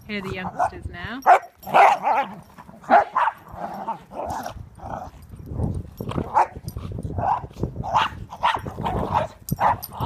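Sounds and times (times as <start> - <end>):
dogs barking and yipping: 0.2 - 10.0.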